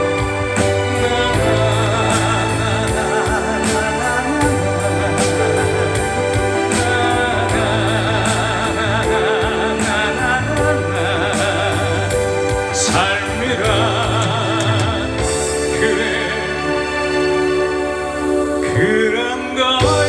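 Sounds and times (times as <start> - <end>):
amplified live slow song: 0.0 - 20.0.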